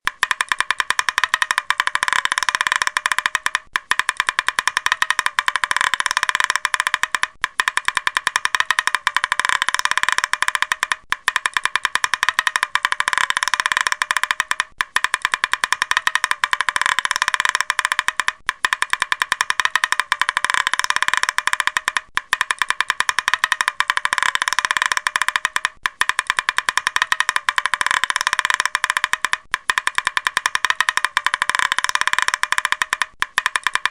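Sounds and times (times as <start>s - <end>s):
woodpecker tapping: 0.1s - 33.9s.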